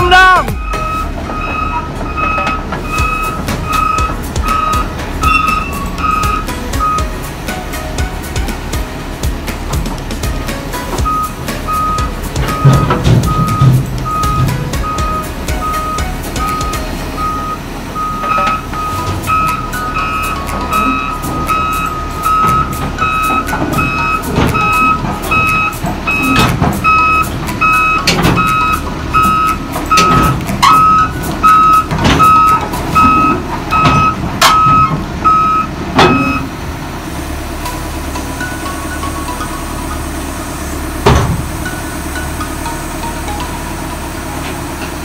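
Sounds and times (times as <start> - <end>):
excavator travel alarm beeping: 0.0 - 7.8, 10.7 - 36.6, 37.5 - 45.0
diesel engine running: 0.0 - 45.0
steel tracks clanking on metal: 0.0 - 45.0.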